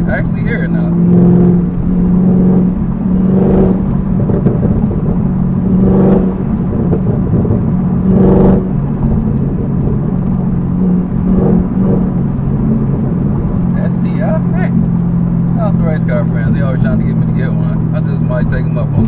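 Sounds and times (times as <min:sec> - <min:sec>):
car engine cruising drone: 0:00.0 - 0:19.0.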